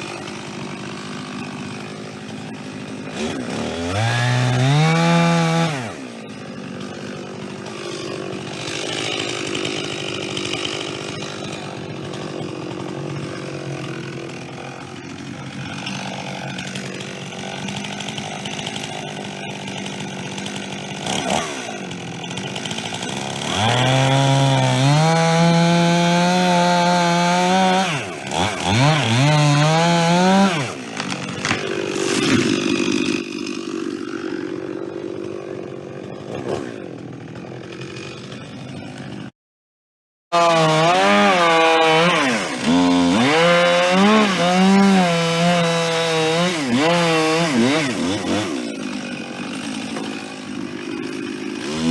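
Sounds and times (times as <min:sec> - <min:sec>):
chainsaw revving: 0:00.0 - 0:39.3, 0:40.3 - 0:51.9.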